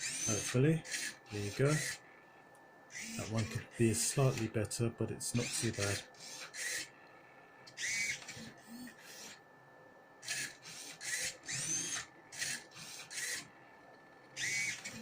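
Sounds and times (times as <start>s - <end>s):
servo motors whining: 0.0s - 9.6s, 10.2s - 15.0s.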